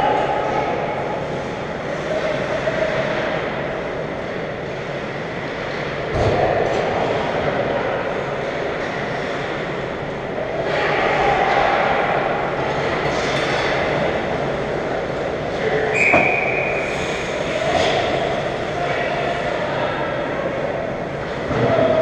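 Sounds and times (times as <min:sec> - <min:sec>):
rumbling arena crowd noise: 0:00.0 - 0:22.0.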